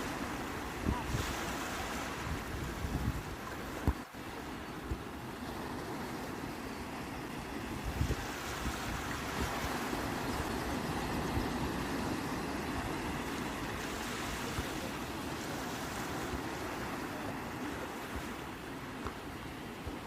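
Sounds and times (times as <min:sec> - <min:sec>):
sea waves rushing: 0:00.0 - 0:20.0.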